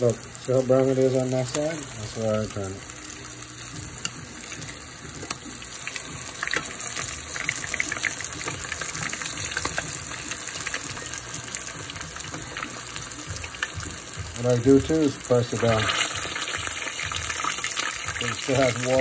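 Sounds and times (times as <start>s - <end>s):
fish deep-frying in oil: 0.0s - 19.0s.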